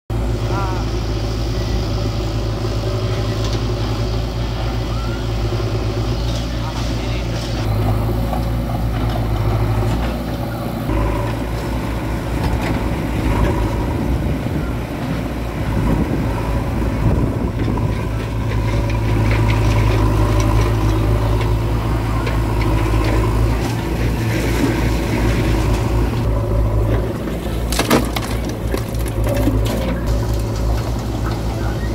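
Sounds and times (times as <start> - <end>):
diesel engines droning: 0.1 - 31.9.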